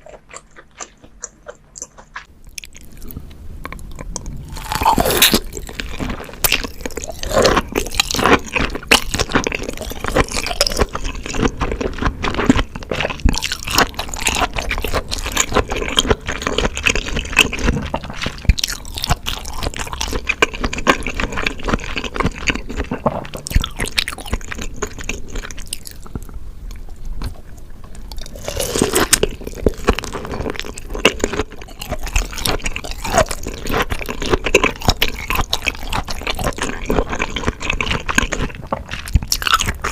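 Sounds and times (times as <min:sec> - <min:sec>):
wet chewing and biting: 0:00.0 - 0:39.9.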